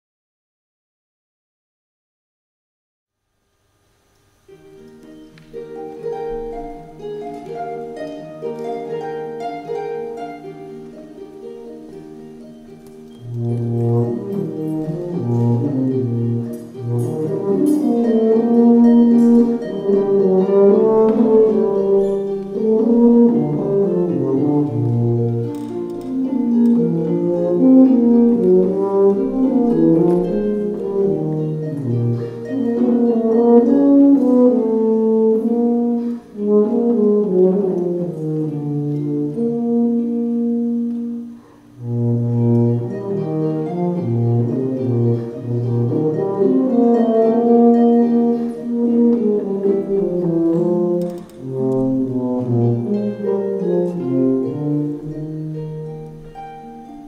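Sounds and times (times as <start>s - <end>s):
harp accompaniment: 4.4s - 57.0s
tuba playing slow melody: 4.6s - 57.0s.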